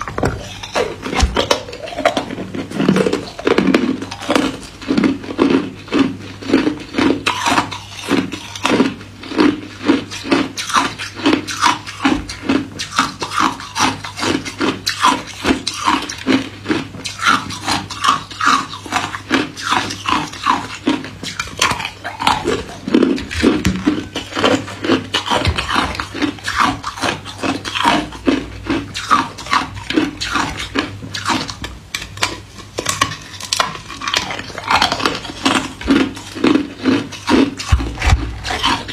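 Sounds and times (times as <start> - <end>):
person crunching ice cubes: 0.0 - 38.9.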